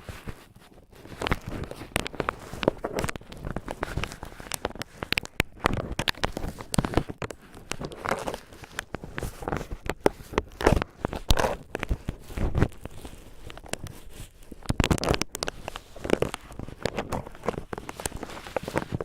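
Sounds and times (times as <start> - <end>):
cotton swabs crinkling on microphone: 0.0 - 19.0.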